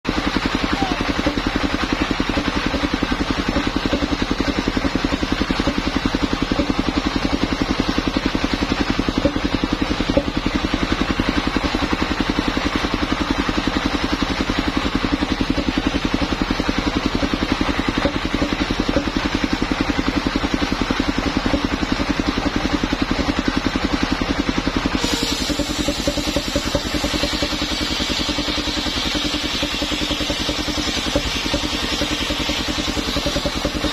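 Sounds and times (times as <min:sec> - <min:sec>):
sawmill engine running: 0:00.1 - 0:33.9.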